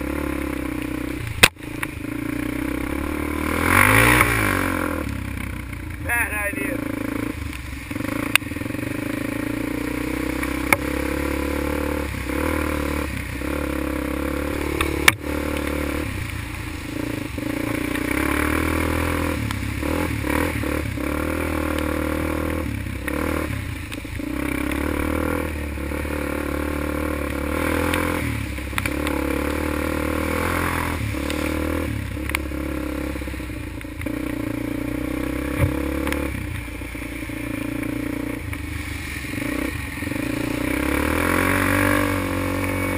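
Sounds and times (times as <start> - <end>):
quad engine revving: 0.0 - 42.9
tyres splashing through mud: 6.9 - 42.9.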